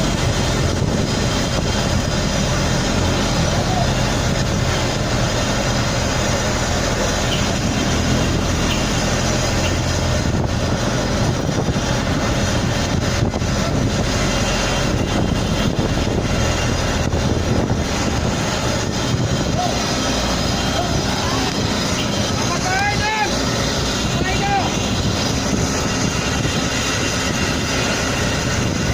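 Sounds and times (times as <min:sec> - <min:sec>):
engine running: 0:00.0 - 0:28.9
rushing noise: 0:00.0 - 0:28.9.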